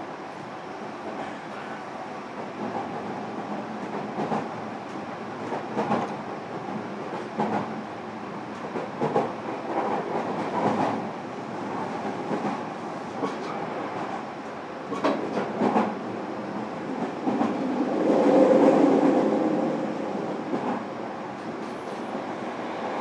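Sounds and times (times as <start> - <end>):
train rumbling at speed: 0.0 - 23.0.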